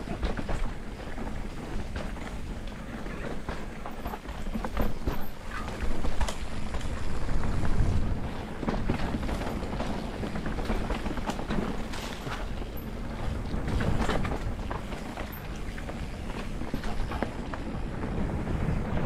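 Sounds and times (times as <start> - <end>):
bike tyres rumbling on dirt: 0.0 - 19.0
bikes rattling over bumps: 0.0 - 19.0.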